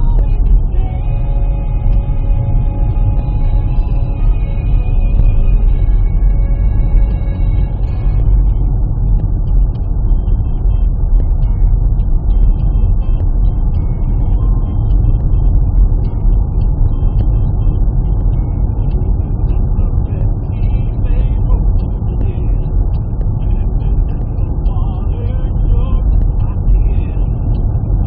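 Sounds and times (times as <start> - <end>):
car rumbling on road: 0.0 - 28.0
faint radio sounds: 0.0 - 28.0.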